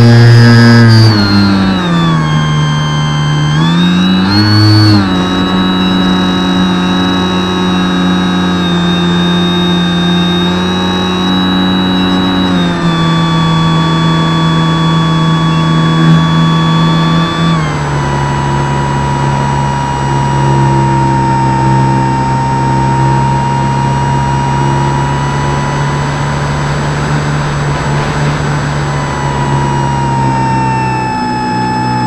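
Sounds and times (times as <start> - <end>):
model aircraft motor and propeller drone: 0.0 - 32.0.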